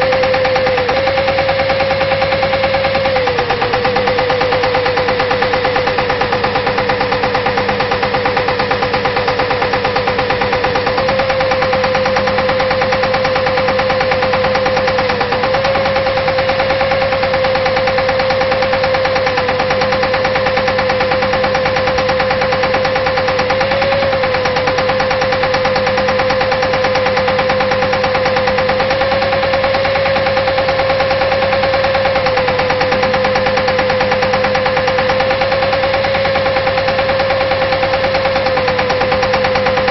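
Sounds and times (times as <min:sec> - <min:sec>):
drilling rig mechanical drone: 0:00.0 - 0:39.9
pneumatic hammer pounding: 0:00.0 - 0:39.9.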